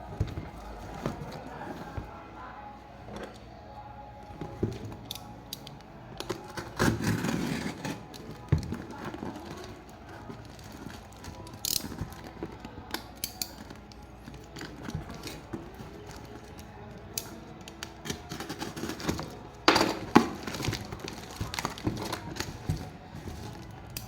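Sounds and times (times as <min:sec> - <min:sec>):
packaging rustling and scraping: 0:00.0 - 0:03.6, 0:06.1 - 0:24.0.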